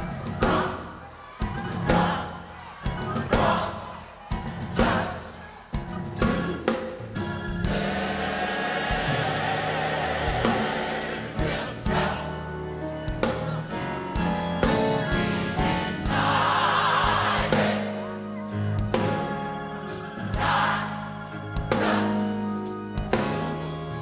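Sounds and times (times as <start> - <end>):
band accompaniment: 0.0 - 24.0
gospel choir singing: 0.0 - 24.0.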